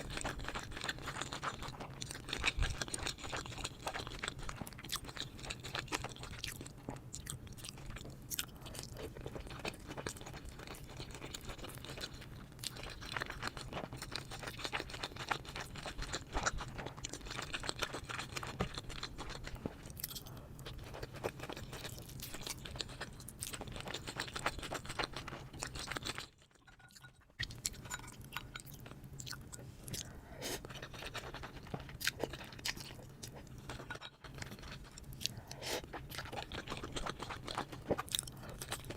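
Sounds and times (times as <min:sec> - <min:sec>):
chewing with crunching: 0:00.0 - 0:38.9
low steady hum: 0:00.0 - 0:38.9.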